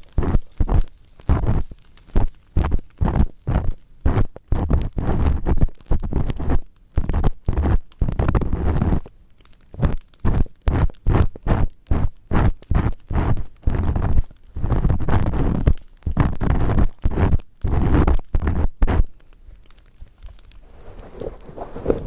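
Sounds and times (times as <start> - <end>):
earpick scraping microphone: 0.0 - 9.1, 9.8 - 19.1, 20.4 - 22.0.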